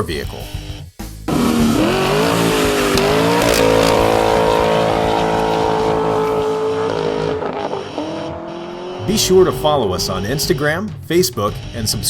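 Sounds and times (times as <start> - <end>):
car engine revving: 1.3 - 11.0.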